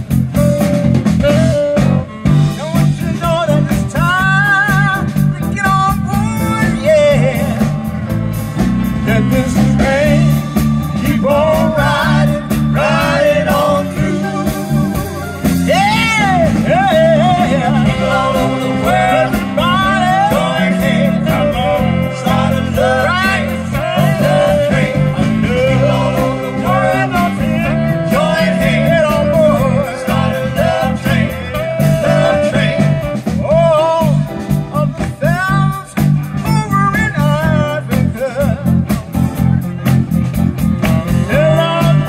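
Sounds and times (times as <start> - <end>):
bass guitar: 0.0 - 42.0
drums: 0.0 - 42.0
electric guitar: 0.0 - 42.0
keyboard: 0.0 - 42.0
singers: 2.6 - 39.0, 40.8 - 42.0.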